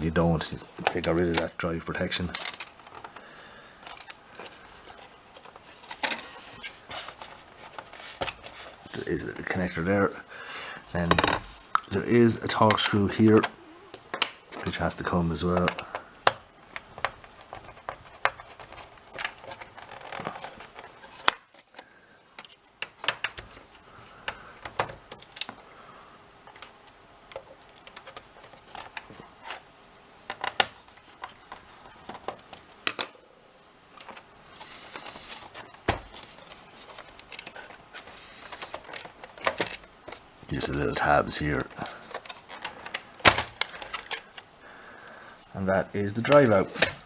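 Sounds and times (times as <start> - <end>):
parts being handled: 0.1 - 33.2, 33.8 - 47.0.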